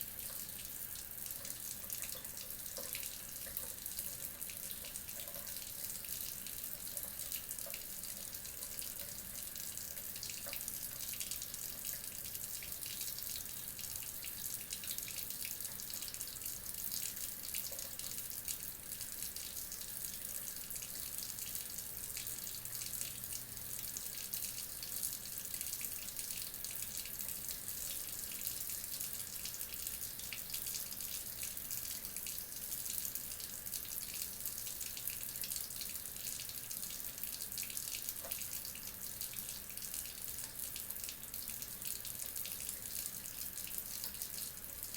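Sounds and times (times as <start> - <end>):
tap water running into sink: 0.0 - 44.9.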